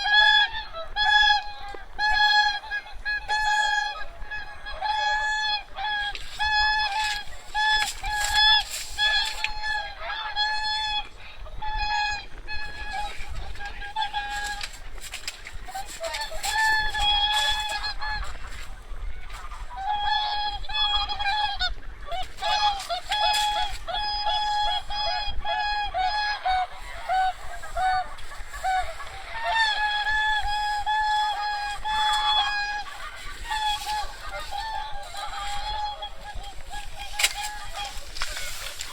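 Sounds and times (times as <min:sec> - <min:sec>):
waterfowl honking: 0:00.0 - 0:38.9.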